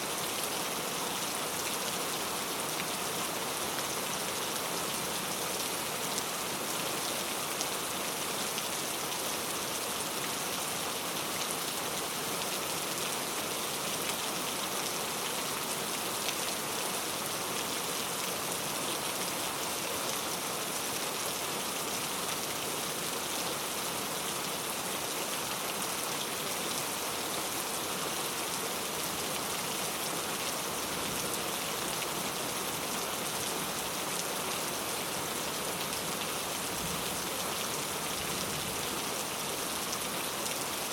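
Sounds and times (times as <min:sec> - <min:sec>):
very heavy rain: 0:00.0 - 0:40.9.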